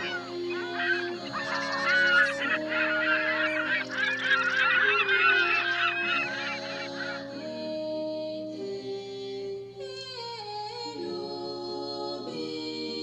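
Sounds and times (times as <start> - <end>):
a cappella voices singing chords: 0.0 - 13.0.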